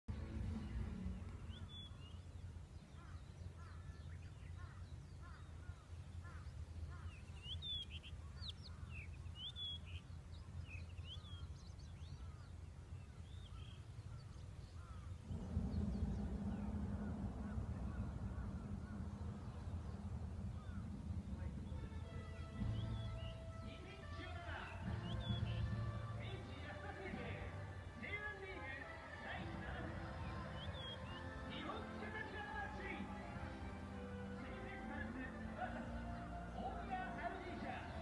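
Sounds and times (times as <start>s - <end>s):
distant stadium crowd rumble: 0.1s - 38.0s
small birds chirping: 0.1s - 38.0s.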